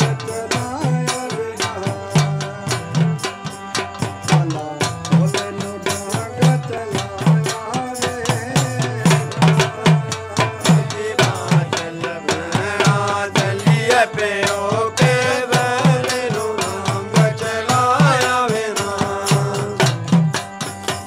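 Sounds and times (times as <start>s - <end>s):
dholak drum beat: 0.0s - 21.0s
sharp rattling percussion: 0.0s - 21.0s.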